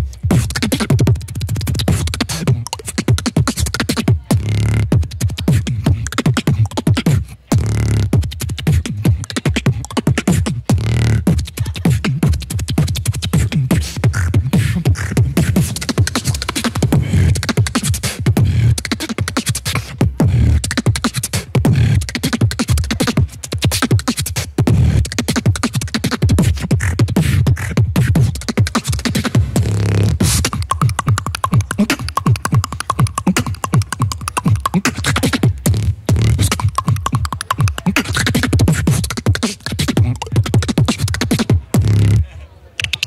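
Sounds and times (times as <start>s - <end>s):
beatboxed kick sounds: 0.0s - 43.0s
beatboxing mouth clicks: 0.0s - 43.0s.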